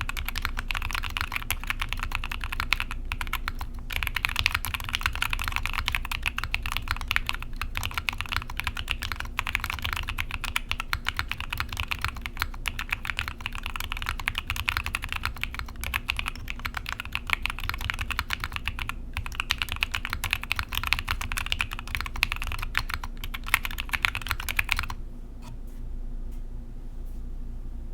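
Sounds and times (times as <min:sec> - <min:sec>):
mechanical keyboard typing: 0:00.0 - 0:25.0.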